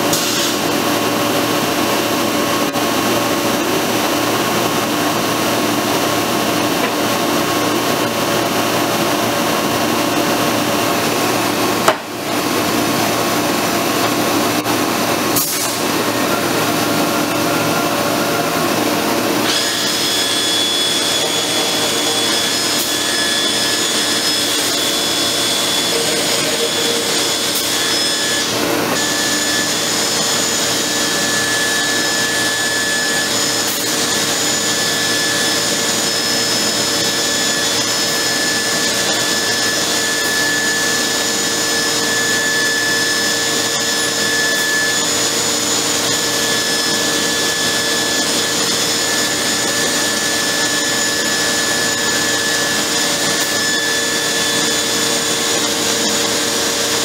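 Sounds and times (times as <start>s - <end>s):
machine whining: 0.0s - 57.0s.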